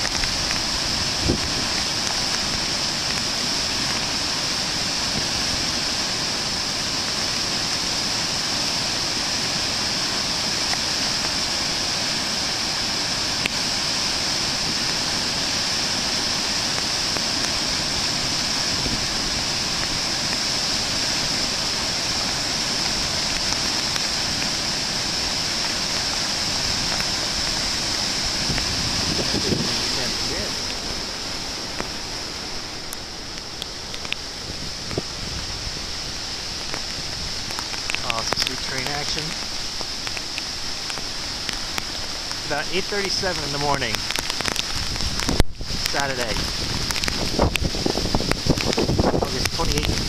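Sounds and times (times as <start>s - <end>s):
water rushing over dam: 0.0s - 50.0s.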